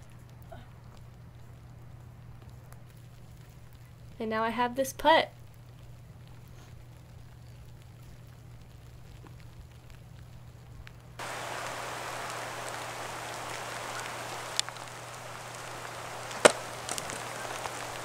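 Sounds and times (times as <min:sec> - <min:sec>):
rain pattering: 0:00.0 - 0:18.0.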